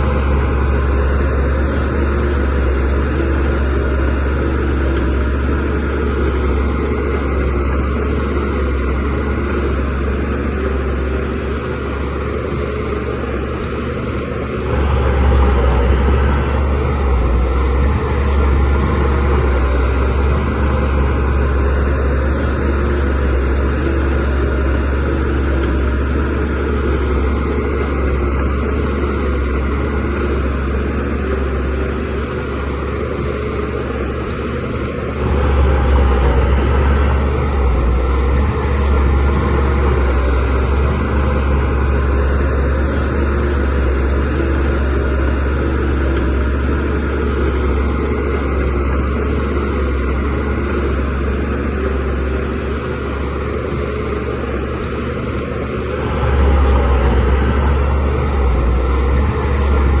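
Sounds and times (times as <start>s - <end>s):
bulldozer diesel engine droning: 0.0s - 60.0s.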